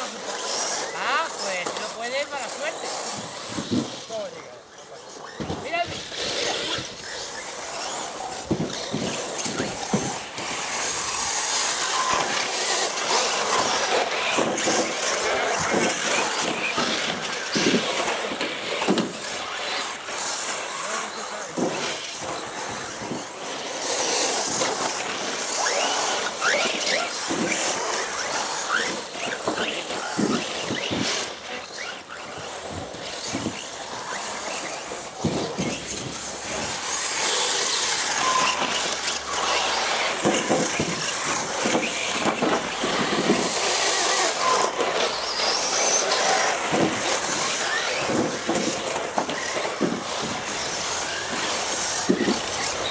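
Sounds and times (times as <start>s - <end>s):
model race car motors whining: 0.0s - 52.9s.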